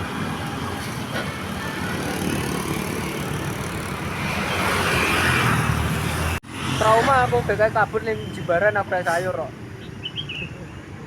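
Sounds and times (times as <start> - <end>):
passing vehicles: 0.0 - 11.0.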